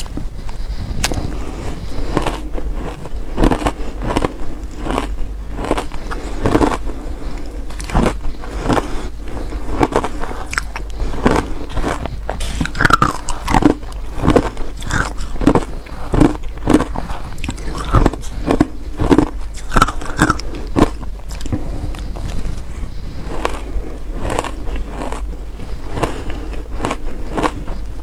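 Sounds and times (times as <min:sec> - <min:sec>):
person crunching shaved ice: 0:00.0 - 0:28.0.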